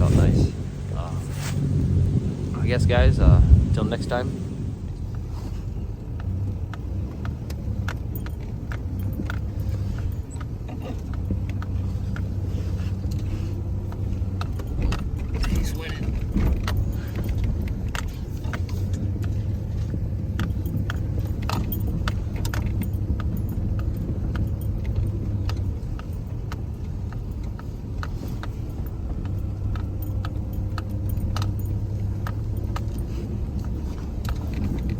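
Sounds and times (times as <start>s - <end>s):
truck engine and road noise: 0.0s - 34.9s
small rattles and clicks: 4.9s - 34.9s.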